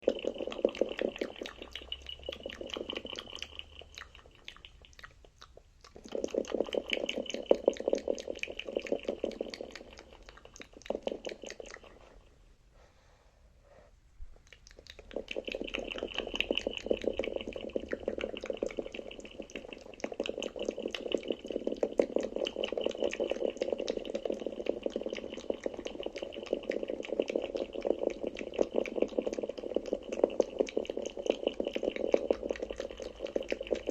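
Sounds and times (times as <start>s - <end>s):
wet mouth clicks and smacks: 0.0s - 12.0s, 14.4s - 33.9s.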